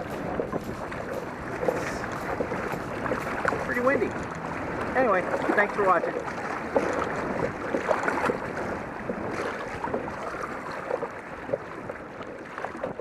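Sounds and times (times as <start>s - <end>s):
water splashing against kayak: 0.0s - 13.0s
wind buffeting microphone: 0.0s - 13.0s.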